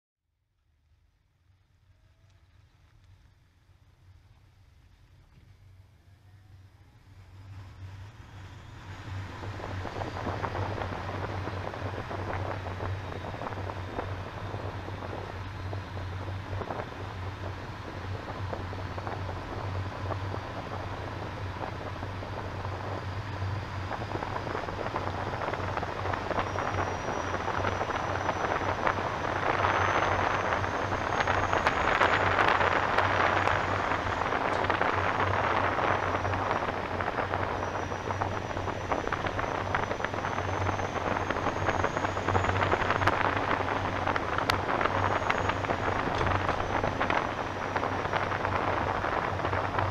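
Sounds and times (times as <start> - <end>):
faint high whine: 0.3 - 49.9
wind and road noise: 0.8 - 49.9.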